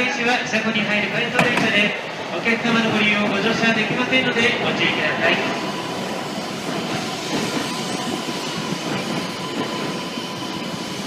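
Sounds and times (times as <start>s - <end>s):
train wheels rumbling on rail: 0.1s - 11.0s.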